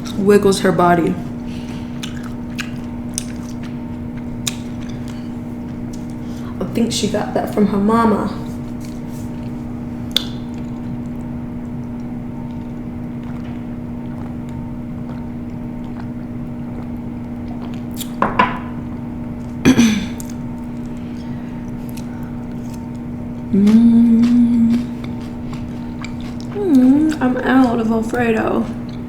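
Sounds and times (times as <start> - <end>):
low hum: 0.0 - 29.0
eating sounds: 1.5 - 6.5, 8.6 - 18.2, 19.4 - 29.0.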